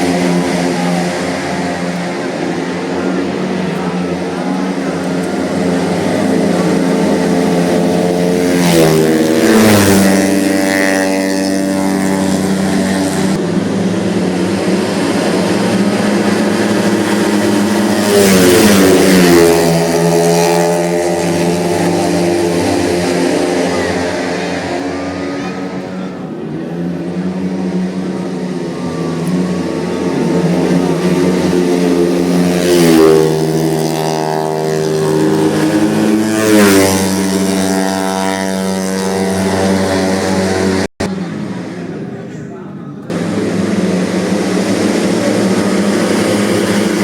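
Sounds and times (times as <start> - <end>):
scooter engines droning: 0.0 - 47.0
scooter passing by: 0.0 - 47.0.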